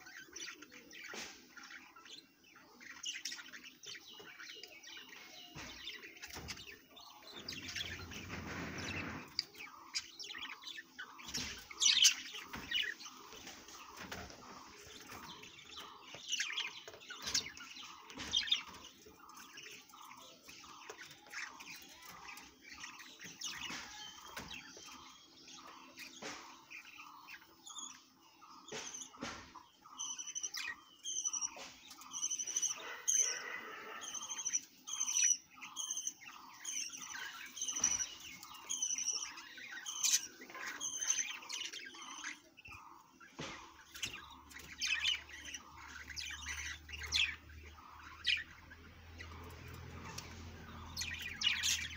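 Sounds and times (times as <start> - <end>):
budgerigars chirping: 0.0 - 51.9.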